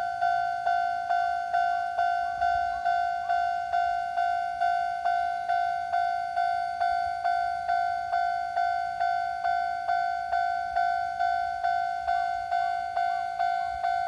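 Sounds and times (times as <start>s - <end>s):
level crossing bell ringing: 0.0s - 14.0s.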